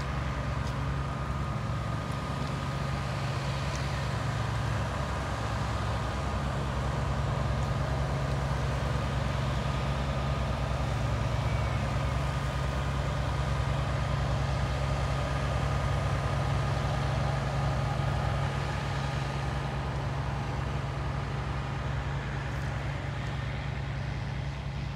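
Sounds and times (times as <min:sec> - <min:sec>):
low engine drone: 0:00.0 - 0:24.9.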